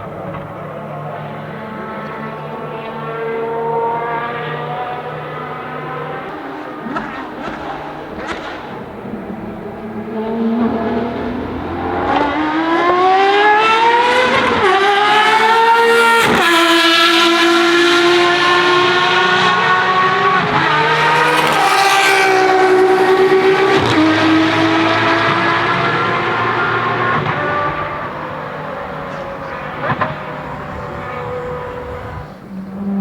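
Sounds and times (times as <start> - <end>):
sports car engine accelerating: 0.0 - 33.0.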